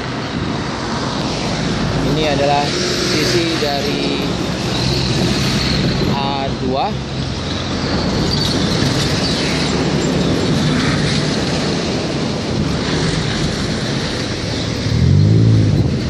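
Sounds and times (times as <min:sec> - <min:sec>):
road traffic rumbling: 0:00.0 - 0:16.0.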